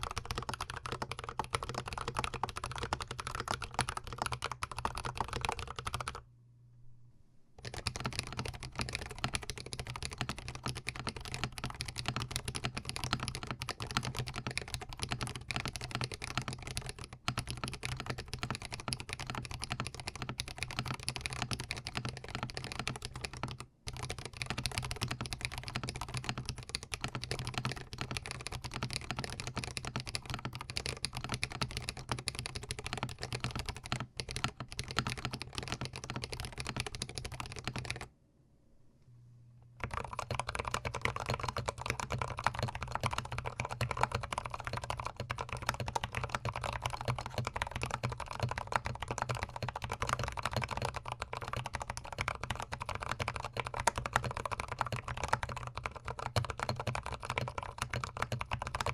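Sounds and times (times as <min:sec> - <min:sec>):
fast typing on mechanical keyboard: 0:00.0 - 0:06.2, 0:07.6 - 0:38.1, 0:39.8 - 0:58.9.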